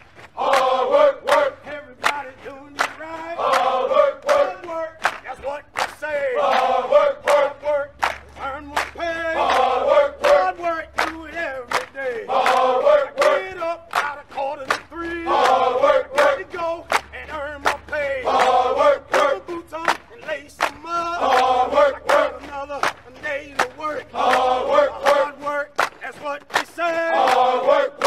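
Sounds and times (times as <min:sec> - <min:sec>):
steady beat of sharp clicks: 0:00.0 - 0:28.0
group of voices chanting: 0:00.3 - 0:28.0.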